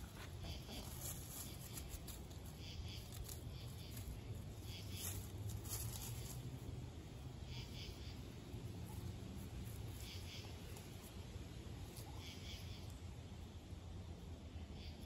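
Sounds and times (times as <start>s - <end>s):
chickens scratching in dry leaves: 0.0s - 13.6s
steady low rumble: 0.0s - 15.0s.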